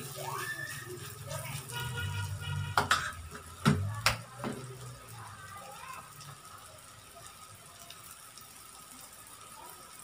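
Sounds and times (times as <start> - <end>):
bananas sizzling in oil: 0.0 - 10.0.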